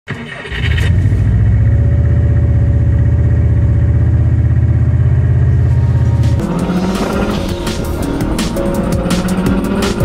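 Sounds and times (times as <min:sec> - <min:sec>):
car engine idling: 0:01.0 - 0:10.0.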